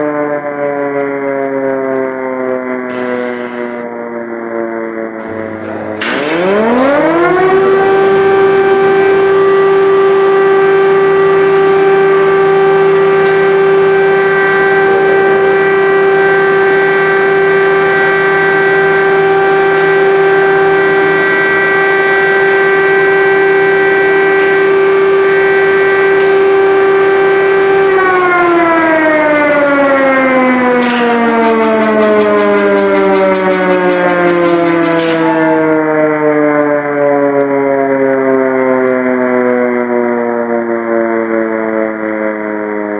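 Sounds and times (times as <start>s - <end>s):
air raid siren wailing: 0.0s - 42.9s.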